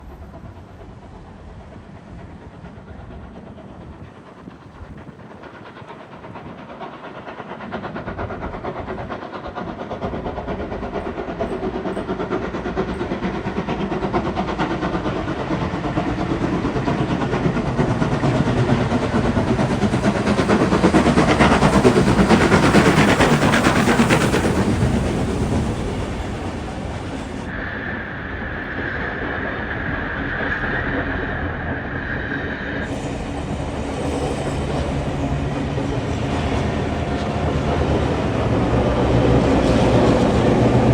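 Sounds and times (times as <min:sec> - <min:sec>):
steam locomotive chuffing: 0:00.0 - 0:40.9
train wheels on rails: 0:00.0 - 0:40.9.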